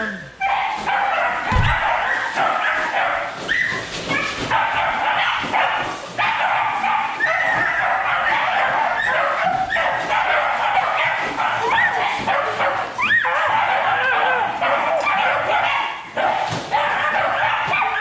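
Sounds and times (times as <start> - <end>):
dogs barking and whining: 0.0 - 18.0.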